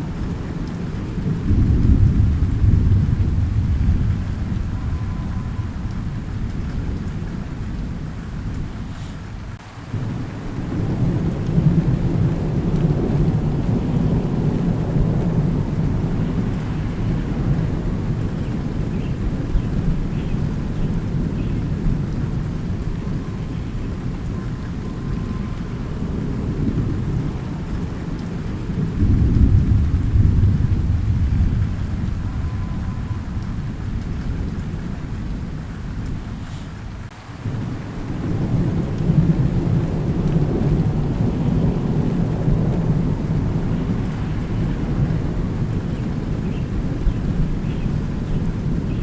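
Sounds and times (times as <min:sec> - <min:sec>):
low rolling thunder: 0:00.0 - 0:49.0
steady rain: 0:00.0 - 0:49.0.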